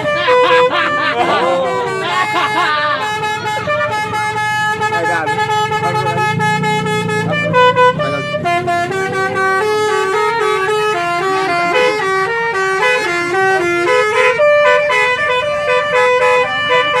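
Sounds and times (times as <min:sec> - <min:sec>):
musical horn playing a tune: 0:00.0 - 0:17.0.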